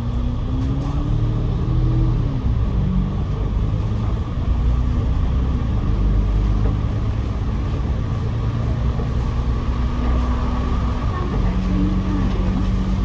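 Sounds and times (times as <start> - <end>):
bus engine drone: 0.0 - 13.0
road and body noise: 0.0 - 13.0.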